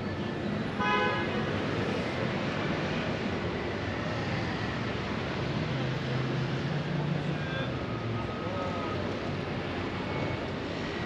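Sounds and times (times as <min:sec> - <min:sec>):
passing cars and motorbikes: 0:00.0 - 0:11.0.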